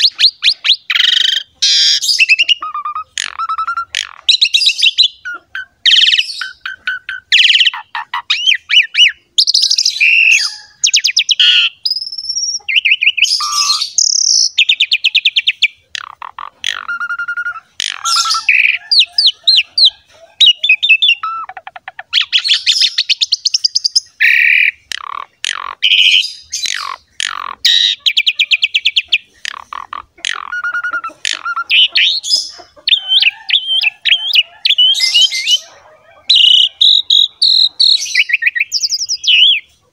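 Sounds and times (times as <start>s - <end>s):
starling singing: 0.0s - 39.8s.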